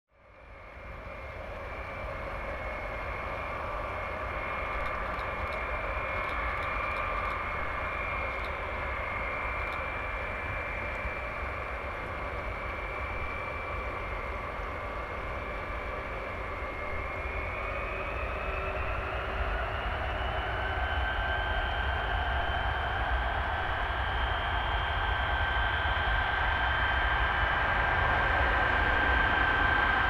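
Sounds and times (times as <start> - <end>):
jet engines whining: 0.7 - 30.0.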